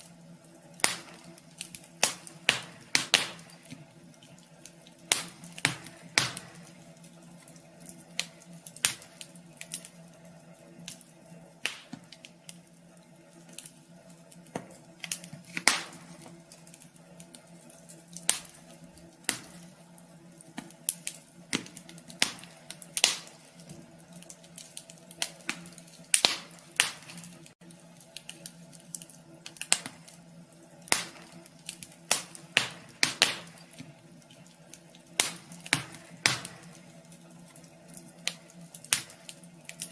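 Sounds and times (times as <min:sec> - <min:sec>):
faint steady hum: 0:00.0 - 0:39.9
wood stove fire crackling: 0:00.0 - 0:39.9.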